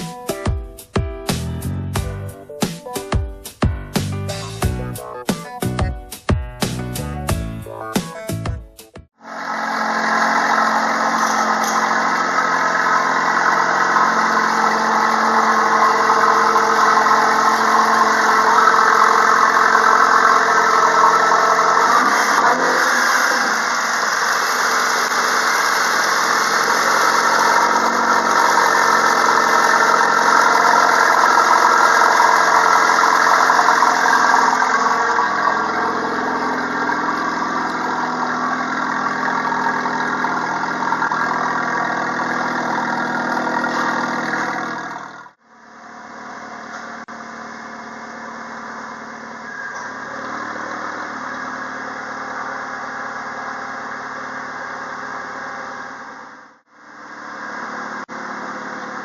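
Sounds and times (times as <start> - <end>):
car engine idling: 9.3 - 59.0.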